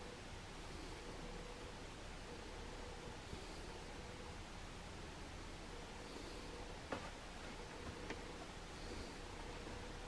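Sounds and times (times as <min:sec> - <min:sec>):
faint hum: 0:00.0 - 0:10.0
room tone hiss: 0:00.0 - 0:10.0.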